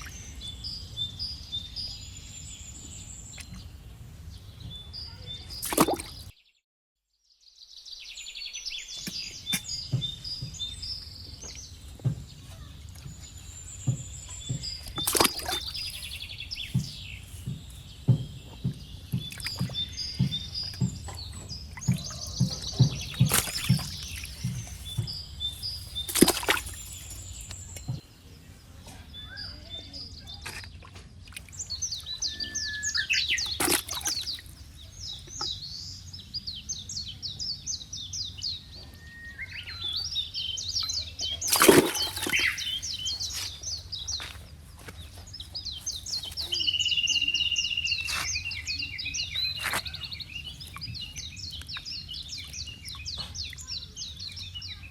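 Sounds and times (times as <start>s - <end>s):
small birds chirping: 0.0s - 6.6s, 7.3s - 54.9s.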